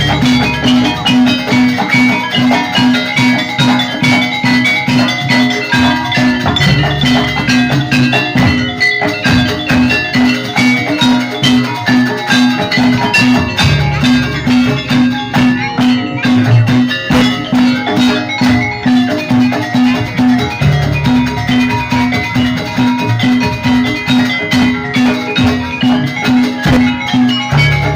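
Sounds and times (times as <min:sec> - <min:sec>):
drums: 0:00.0 - 0:27.9
mallet percussion melody: 0:00.0 - 0:27.9.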